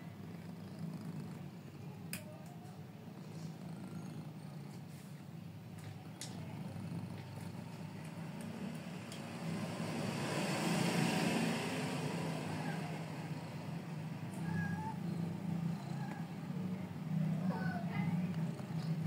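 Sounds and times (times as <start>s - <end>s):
cat purring: 0.0s - 9.8s, 11.8s - 19.0s.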